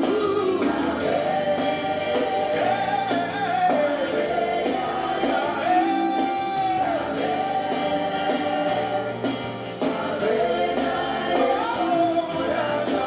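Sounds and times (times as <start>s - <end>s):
band with guitar and bass: 0.0s - 13.0s.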